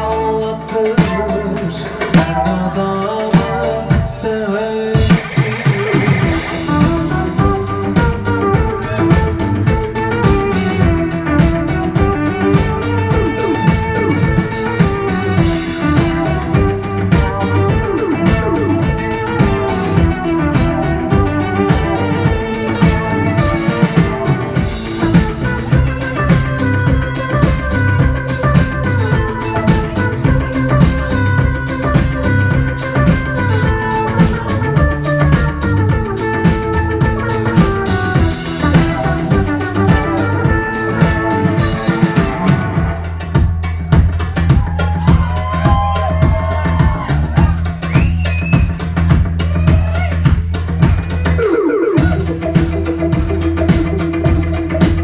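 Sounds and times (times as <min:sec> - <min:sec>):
bass: 0:00.0 - 0:55.0
drum kit beat: 0:00.0 - 0:55.0.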